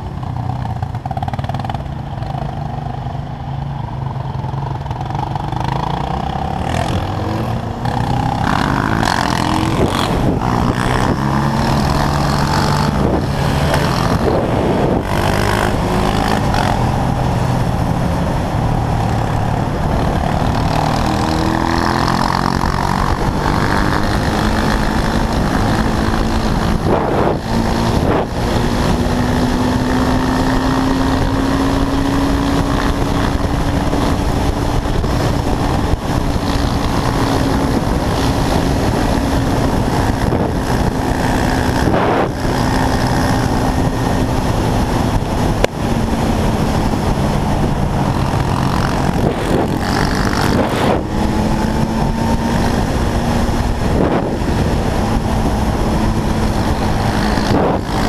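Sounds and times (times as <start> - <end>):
quad bike engine running: 0.0 - 58.0
wind rushing on microphone: 4.0 - 58.0.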